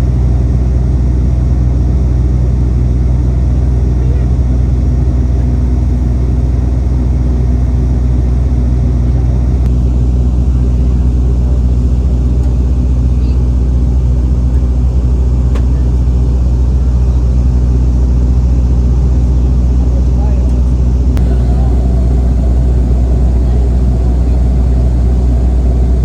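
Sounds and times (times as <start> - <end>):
propeller aircraft cabin drone: 0.0 - 26.0.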